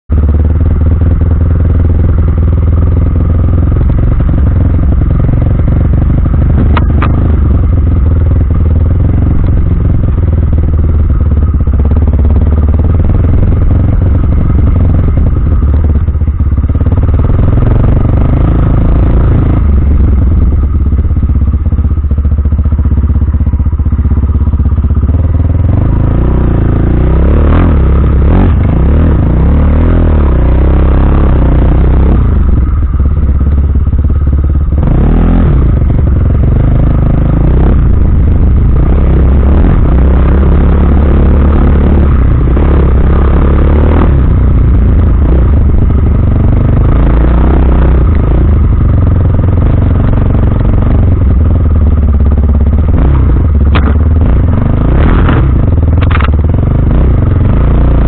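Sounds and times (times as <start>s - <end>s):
motorcycle engine running: 0.0s - 58.0s
clatter over bumps: 0.1s - 58.0s.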